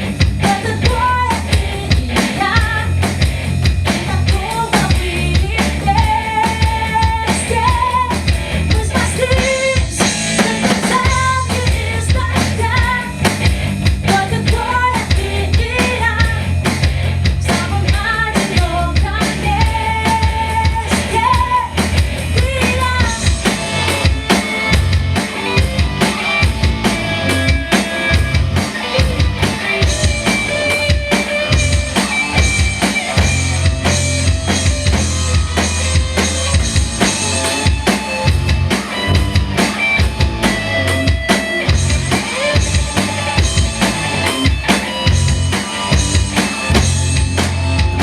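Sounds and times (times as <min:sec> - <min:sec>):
drum kit beat: 0:00.0 - 0:48.0
rock band playing instrumental: 0:00.0 - 0:48.0.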